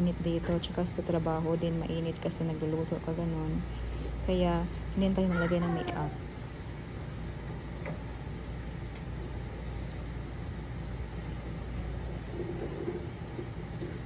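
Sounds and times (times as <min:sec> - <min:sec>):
low rumble and hum: 0:00.0 - 0:14.0.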